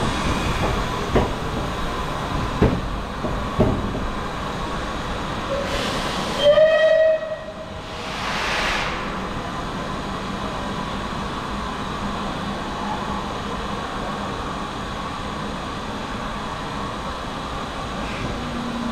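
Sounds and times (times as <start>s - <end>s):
steam locomotive hiss and rumble: 0.0s - 18.9s.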